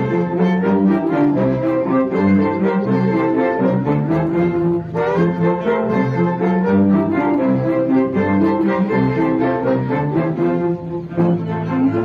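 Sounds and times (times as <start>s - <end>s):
string ensemble playing: 0.0s - 12.0s.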